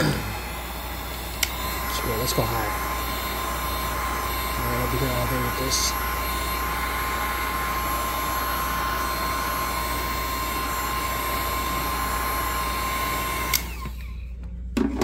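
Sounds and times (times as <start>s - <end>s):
heat gun hissing: 0.0s - 14.0s.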